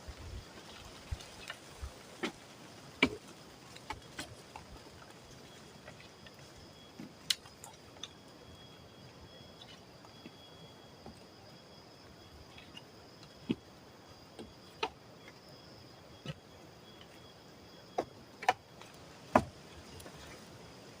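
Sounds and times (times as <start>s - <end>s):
insects calling in high thin tone: 0.0s - 21.0s.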